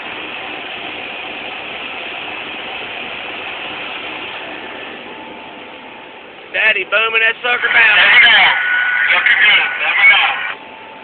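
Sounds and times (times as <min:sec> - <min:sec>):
crane engine and machinery running: 0:00.0 - 0:11.0.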